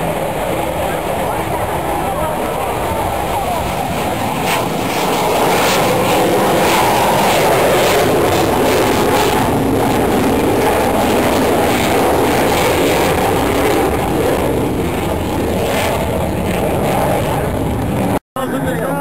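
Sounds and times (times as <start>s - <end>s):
jet aircraft flying past: 0.0s - 18.2s.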